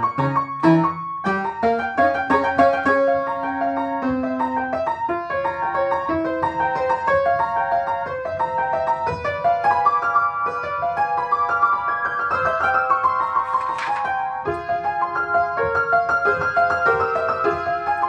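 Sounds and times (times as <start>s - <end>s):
upright piano playing: 0.0s - 18.0s.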